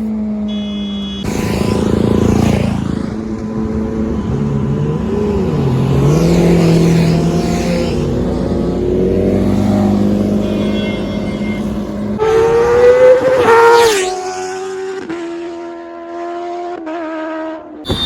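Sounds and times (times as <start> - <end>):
motorcycle engine at high revs: 1.1 - 18.0.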